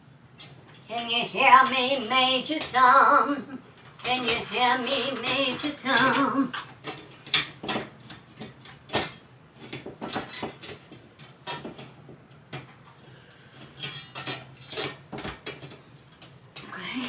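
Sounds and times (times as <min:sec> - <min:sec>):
metal parts clicking and clinking: 0:00.4 - 0:01.8, 0:03.7 - 0:13.0, 0:13.6 - 0:16.8.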